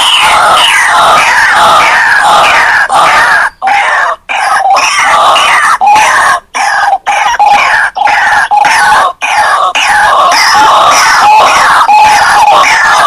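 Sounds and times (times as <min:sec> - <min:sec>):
bird harsh croaking calls: 0:00.0 - 0:13.0.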